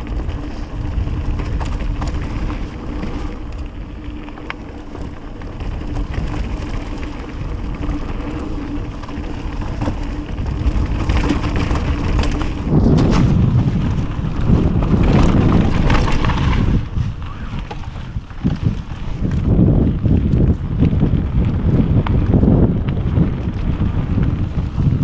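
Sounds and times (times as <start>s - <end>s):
bike rattling: 0.0s - 25.0s
bike tyres rolling on dirt: 0.0s - 25.0s
wind on microphone: 0.0s - 25.0s.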